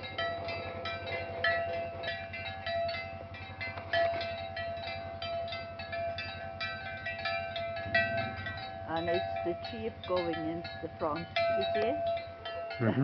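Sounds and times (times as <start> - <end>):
cowbells clanking: 0.0 - 13.0
steady low hum: 0.0 - 13.0.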